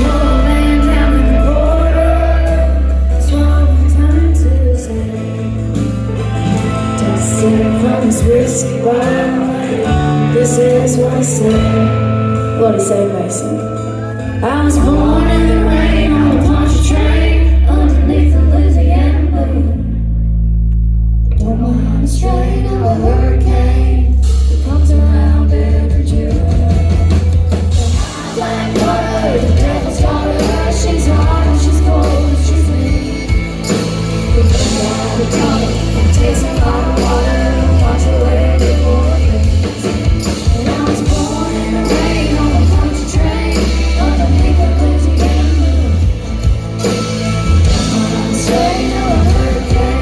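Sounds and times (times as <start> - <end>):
country band playing live: 0.0 - 50.0.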